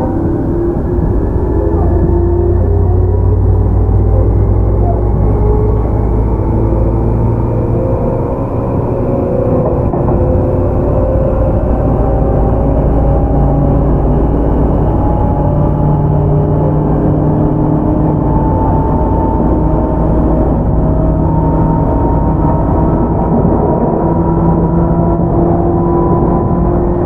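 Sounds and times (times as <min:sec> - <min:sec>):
electric train motor whine: 0:00.0 - 0:27.0
wheel and rail noise: 0:00.0 - 0:27.0.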